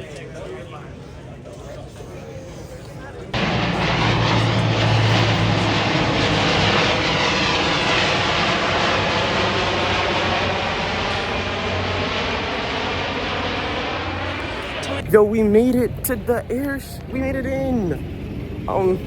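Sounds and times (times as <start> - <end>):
aircraft engine droning overhead: 0.0 - 19.0.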